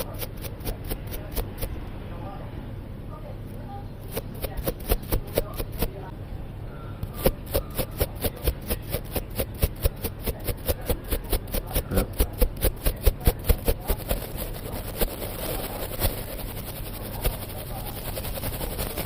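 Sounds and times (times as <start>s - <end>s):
object scratching microphone: 0.0s - 2.0s, 4.0s - 6.1s, 7.1s - 19.0s.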